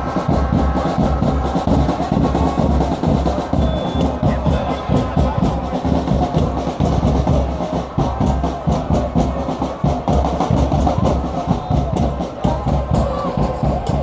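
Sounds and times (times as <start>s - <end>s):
drums beating steady rhythm: 0.0s - 14.0s
stadium crowd din: 0.0s - 14.0s.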